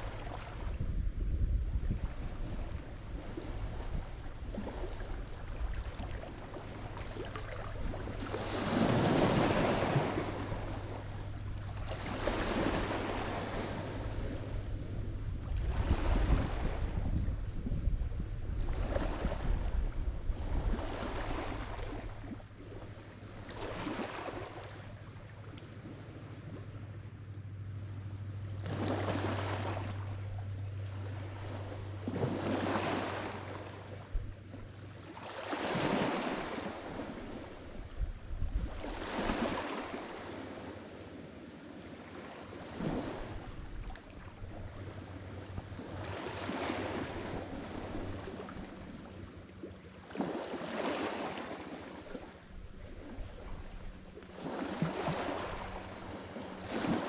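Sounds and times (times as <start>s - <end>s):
waves breaking on shore: 0.0s - 26.8s, 28.0s - 57.0s.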